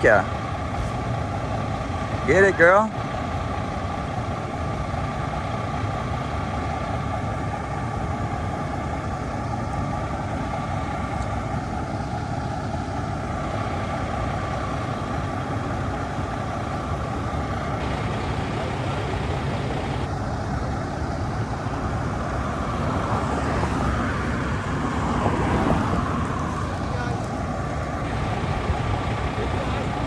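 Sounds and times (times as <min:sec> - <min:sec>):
vehicle engine running: 0:00.3 - 0:30.0.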